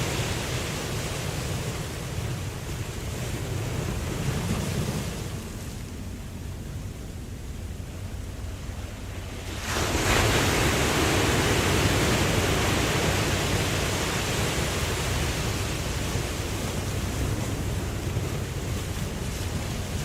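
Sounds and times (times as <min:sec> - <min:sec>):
low rumble of surf: 0:00.0 - 0:20.0
ocean wave breaking: 0:00.0 - 0:20.0.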